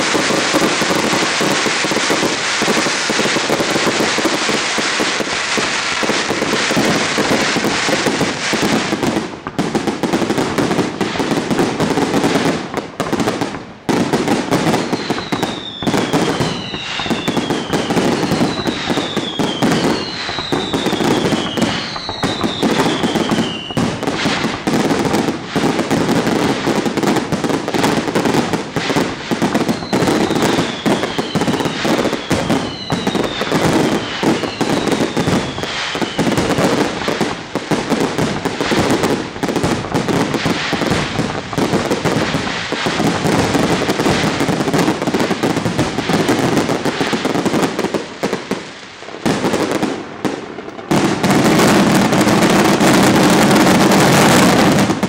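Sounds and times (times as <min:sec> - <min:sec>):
falling fireworks whistles: 0:00.0 - 0:55.0
fireworks crackling: 0:00.0 - 0:55.0.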